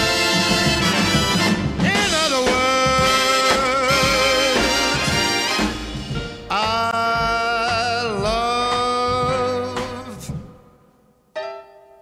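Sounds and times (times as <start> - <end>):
swing band music: 0.0 - 10.8.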